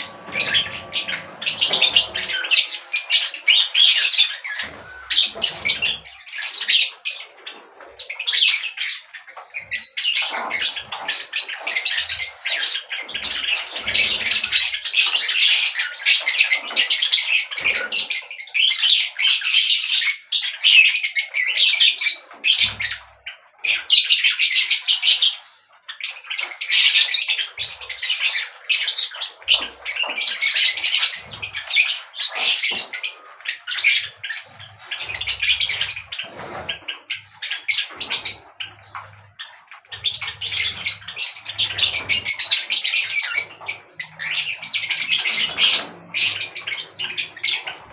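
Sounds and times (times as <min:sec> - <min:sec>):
birds chirping and squawking: 0:00.0 - 0:47.9.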